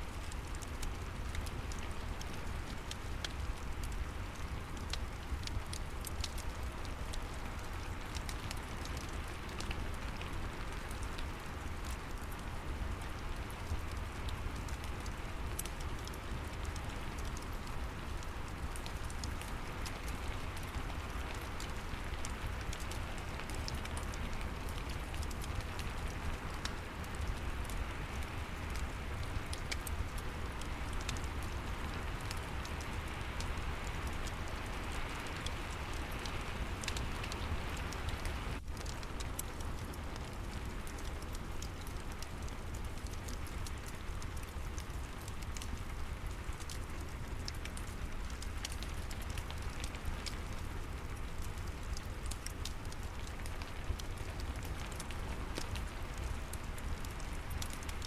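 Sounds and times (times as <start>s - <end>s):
steady rain: 0.0s - 58.0s
fireplace crackling: 0.1s - 58.0s.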